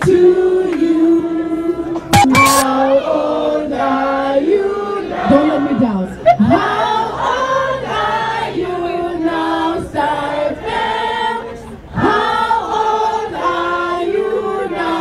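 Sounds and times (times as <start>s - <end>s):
choir singing in harmony: 0.0s - 5.8s, 6.5s - 15.0s.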